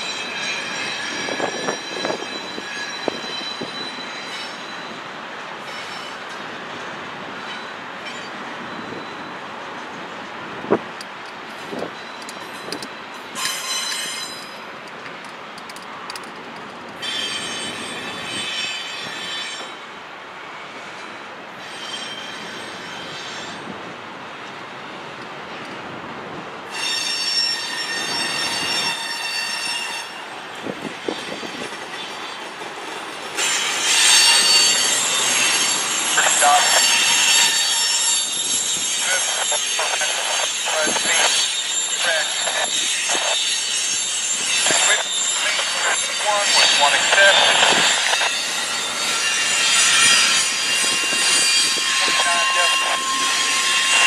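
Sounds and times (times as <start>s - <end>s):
train wheels squealing on rails: 0.0s - 26.0s, 26.6s - 54.0s
train rolling rumble: 0.0s - 54.0s.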